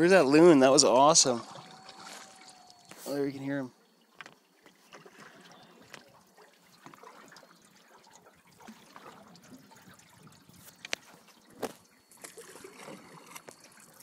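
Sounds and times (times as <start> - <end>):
water trickling and dripping: 0.0 - 14.0.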